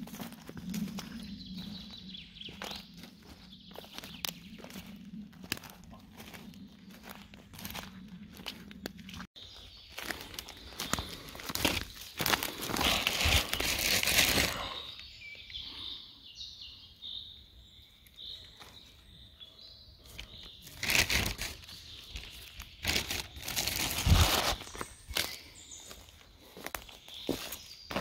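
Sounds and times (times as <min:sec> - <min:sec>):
footsteps on dry leaves: 0:00.0 - 0:14.8, 0:20.1 - 0:28.0.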